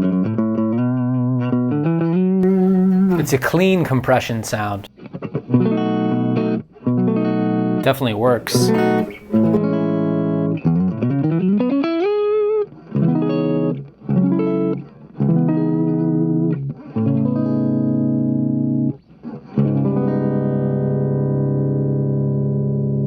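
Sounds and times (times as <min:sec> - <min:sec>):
clean electric guitar: 0:00.0 - 0:23.0.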